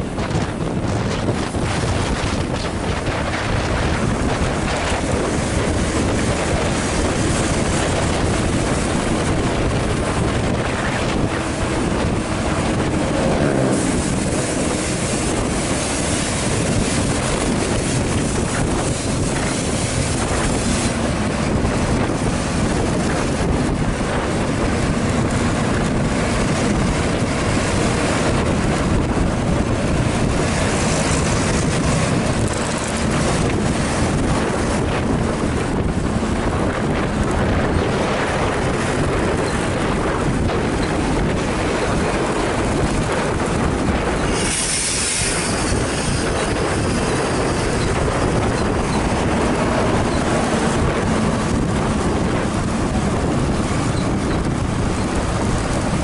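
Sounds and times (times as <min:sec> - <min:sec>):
bus engine and tyre noise: 0:00.0 - 0:56.0
wind rushing over microphone: 0:00.0 - 0:56.0.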